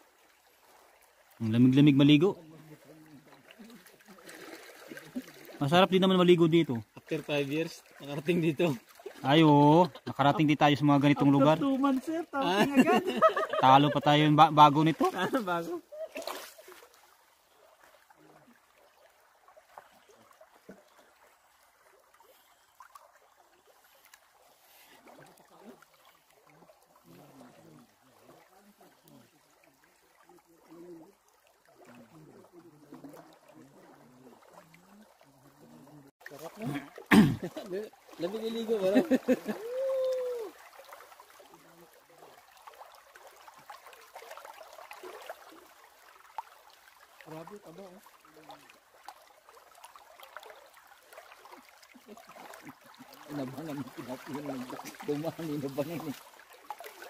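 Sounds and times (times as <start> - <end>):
faint trickling water: 0.0 - 57.0
water drips and splashes: 0.0 - 57.0.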